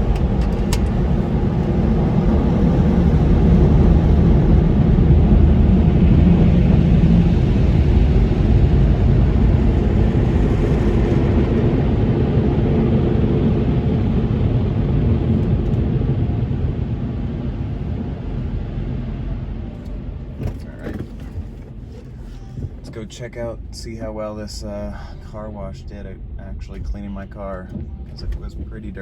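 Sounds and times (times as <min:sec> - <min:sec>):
car wash air dryers roaring: 0:00.0 - 0:29.0.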